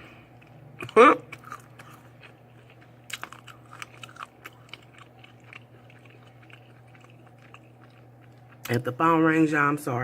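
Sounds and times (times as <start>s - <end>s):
chewing and biting food: 0.3s - 9.2s.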